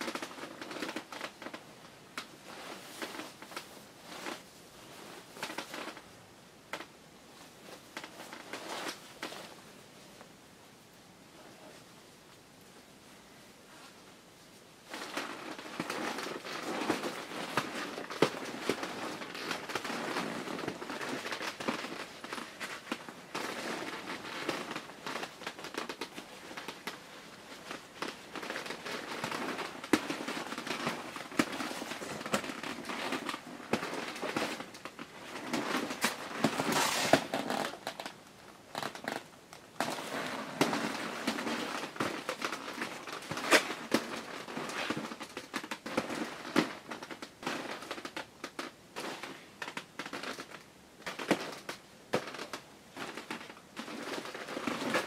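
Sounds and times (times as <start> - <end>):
nylon suit rustling: 0.0 - 10.3, 13.7 - 55.0.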